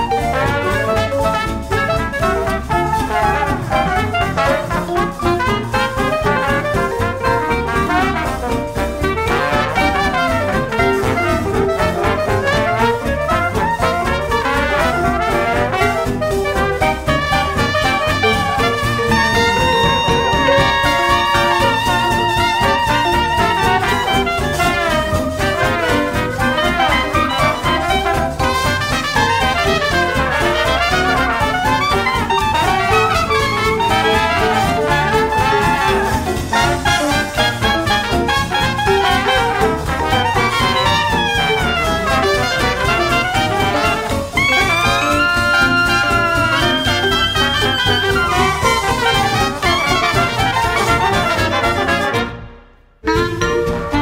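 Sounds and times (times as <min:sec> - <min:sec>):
instrumental background music: 0:00.0 - 0:52.4, 0:53.0 - 0:54.0.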